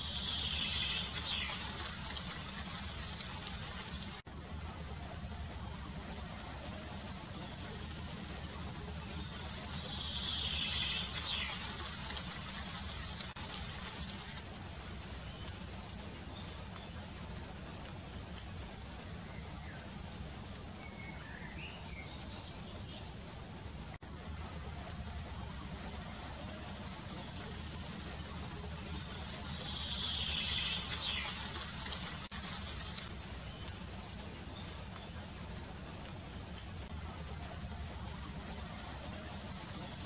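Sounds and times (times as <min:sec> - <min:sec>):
steady hiss: 0:00.0 - 0:40.0.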